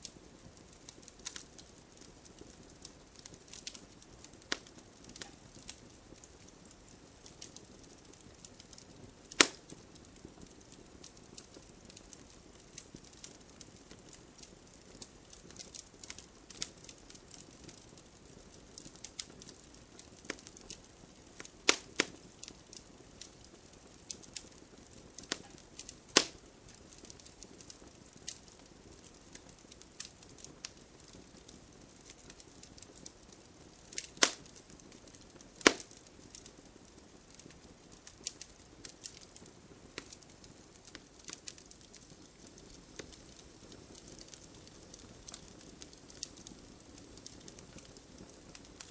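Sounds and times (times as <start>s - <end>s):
loud sharp pops of fire: 0.0s - 48.9s
wood fire crackling: 0.0s - 48.9s.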